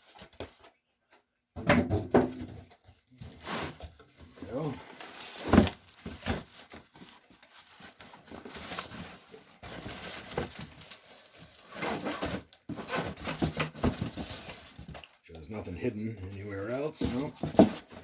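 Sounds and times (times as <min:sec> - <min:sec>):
cardboard and packing rustling: 0:00.0 - 0:18.0.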